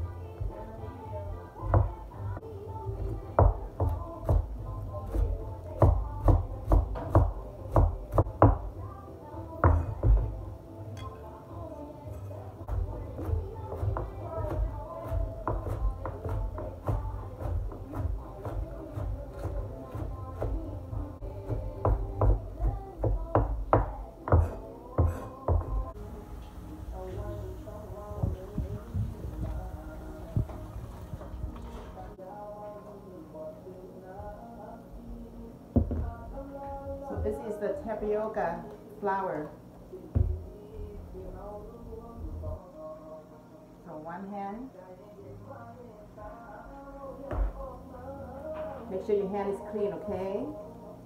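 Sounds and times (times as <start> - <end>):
background music: 0.0 - 51.0.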